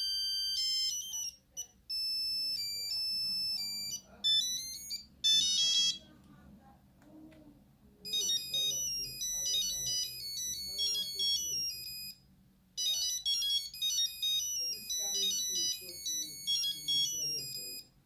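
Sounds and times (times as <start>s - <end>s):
monophonic phone ringtone: 0.0s - 6.2s, 8.0s - 18.0s.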